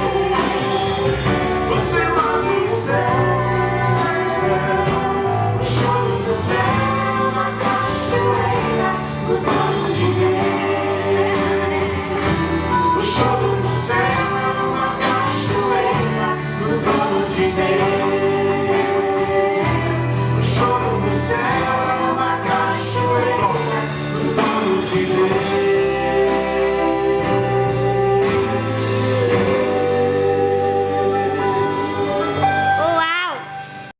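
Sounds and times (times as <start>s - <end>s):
gospel group singing: 0.0s - 32.8s
band with steady beat: 0.0s - 33.9s.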